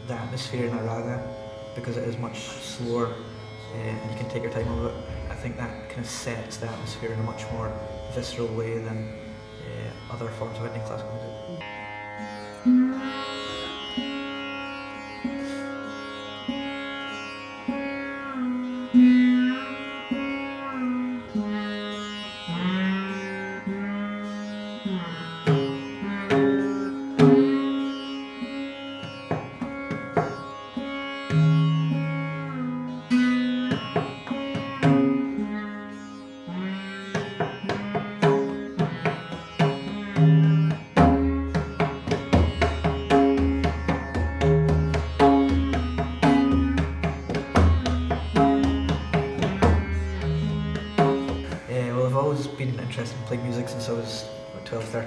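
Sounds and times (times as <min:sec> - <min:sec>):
plucked string notes with slides: 0:00.0 - 0:55.0.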